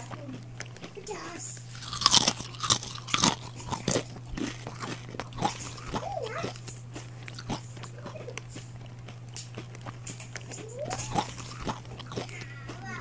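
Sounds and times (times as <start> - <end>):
crunching and chewing dry noodles: 0.0 - 13.0.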